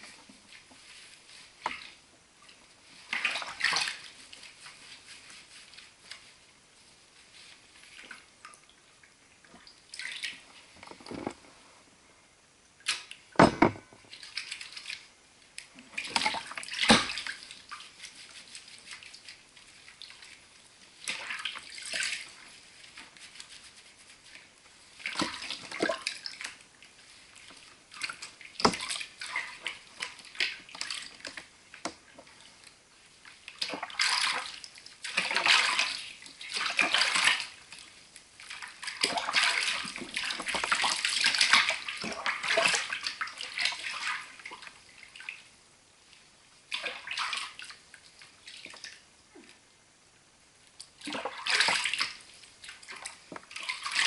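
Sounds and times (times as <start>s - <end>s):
water splashing in a tub: 0.0s - 6.4s, 7.4s - 11.4s, 12.8s - 49.7s, 50.8s - 54.0s.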